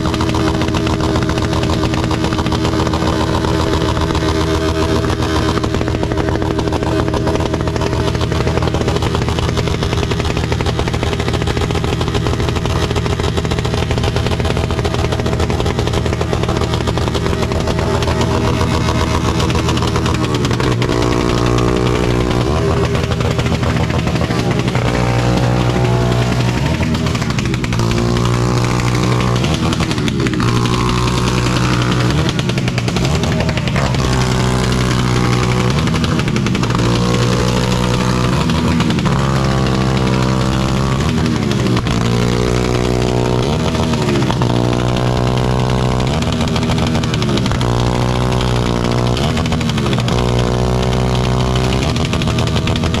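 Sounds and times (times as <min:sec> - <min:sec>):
motorcycle engine idling: 0:00.0 - 0:53.0
motorcycle engine revving: 0:00.0 - 0:53.0.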